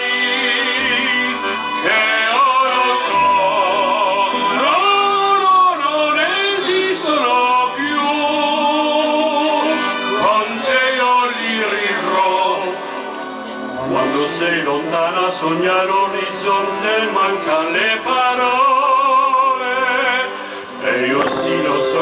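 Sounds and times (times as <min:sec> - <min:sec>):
man singing into a microphone: 0:00.0 - 0:13.1, 0:13.8 - 0:22.0
accordion playing chords: 0:00.0 - 0:22.0.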